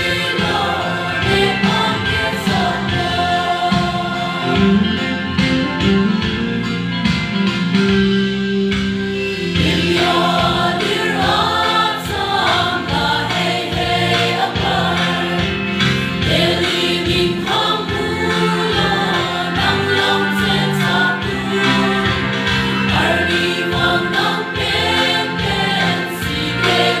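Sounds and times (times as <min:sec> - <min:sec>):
choir singing gospel: 0:00.0 - 0:05.5, 0:09.4 - 0:27.0
sustained instrumental backing: 0:00.0 - 0:27.0.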